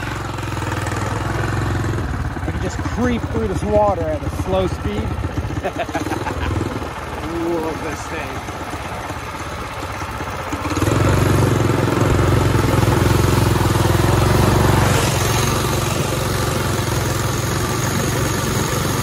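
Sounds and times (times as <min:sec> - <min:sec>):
small motorbike engine: 0:00.0 - 0:19.0
tyres splashing through puddles: 0:00.0 - 0:19.0.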